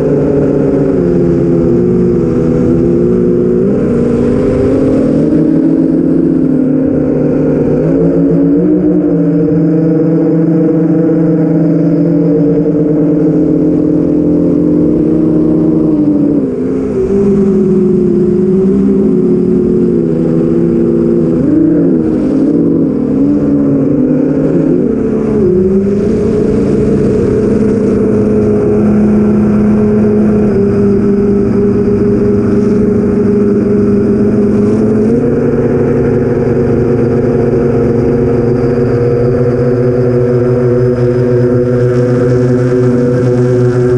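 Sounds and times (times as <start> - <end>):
quadcopter motors humming: 0.0 - 43.9.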